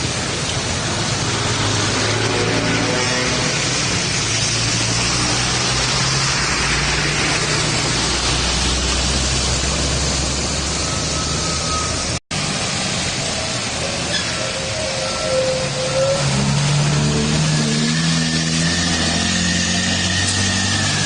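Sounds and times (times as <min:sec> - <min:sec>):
heavy highway traffic roar: 0:00.0 - 0:21.0.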